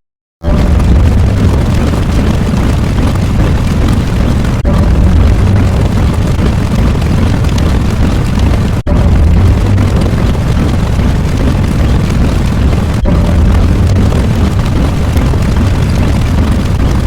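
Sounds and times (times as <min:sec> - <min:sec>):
deep rumbling: 0:00.4 - 0:17.0.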